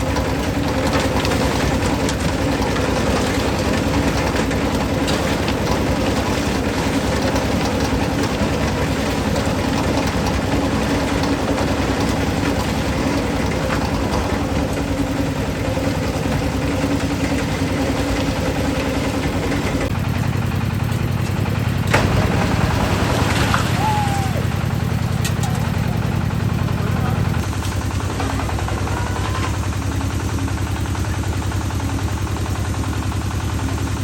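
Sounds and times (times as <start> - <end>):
concrete mixer engine running: 0.0 - 34.0.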